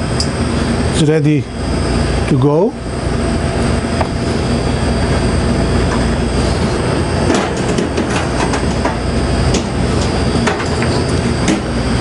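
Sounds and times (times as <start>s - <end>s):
ventilation fan rumble: 0.0s - 12.0s.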